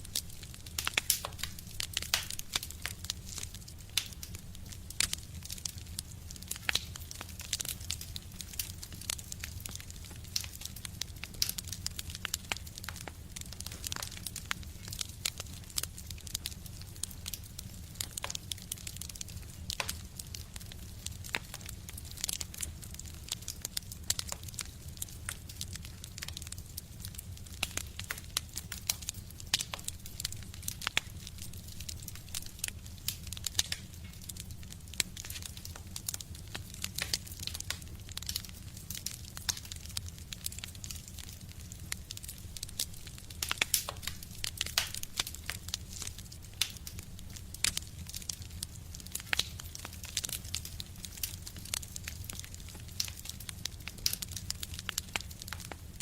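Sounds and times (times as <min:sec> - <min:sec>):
low rumble of stove: 0:00.0 - 0:56.0
wood fire crackling and popping: 0:00.0 - 0:56.0.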